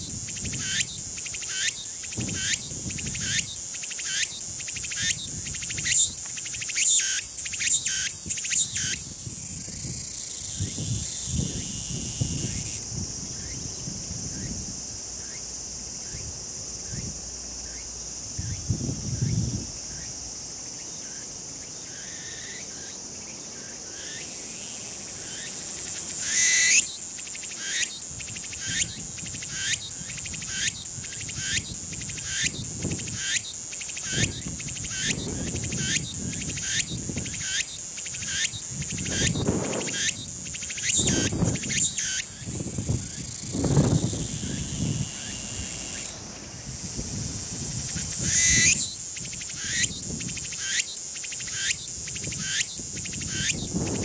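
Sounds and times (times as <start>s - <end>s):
cicada singing: 0.0s - 54.0s.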